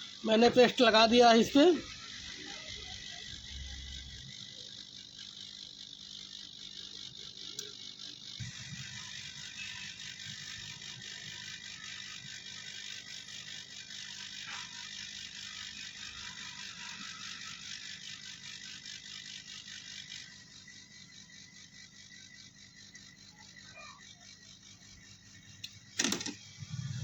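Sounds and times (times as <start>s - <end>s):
faint steady whine: 0.0s - 27.0s.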